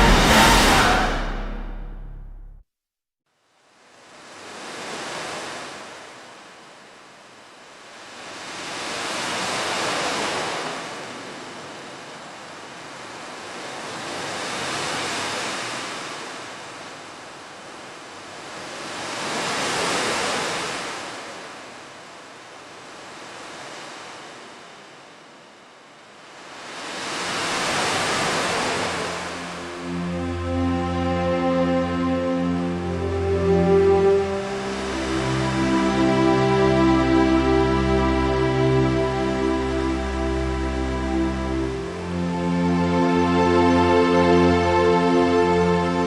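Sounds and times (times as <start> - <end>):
ocean waves washing in: 0.0 - 2.1, 3.7 - 46.0.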